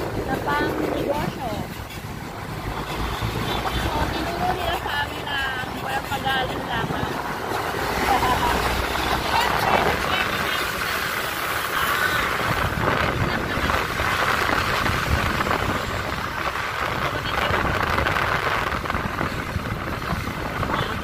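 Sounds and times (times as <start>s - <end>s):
vehicle running on road: 0.0s - 21.0s
wind buffeting microphone: 0.0s - 21.0s.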